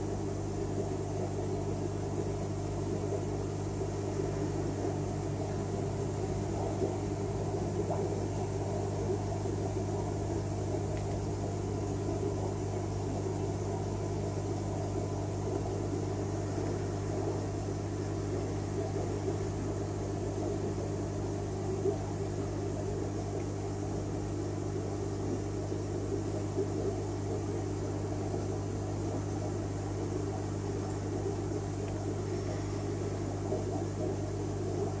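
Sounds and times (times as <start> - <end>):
aquarium pumps humming: 0.0 - 35.0.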